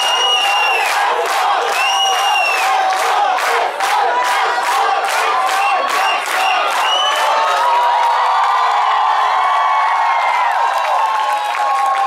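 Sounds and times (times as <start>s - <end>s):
group shouts and whoops: 0.0s - 12.0s.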